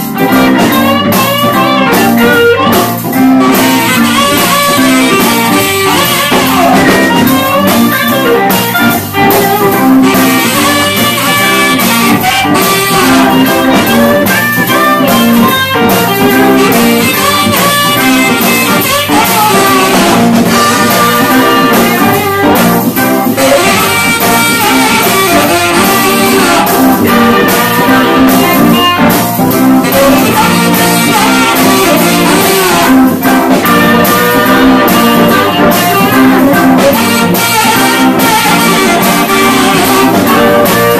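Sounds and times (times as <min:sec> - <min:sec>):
electric guitar: 0:00.0 - 0:40.9
live rock band playing: 0:00.0 - 0:40.9.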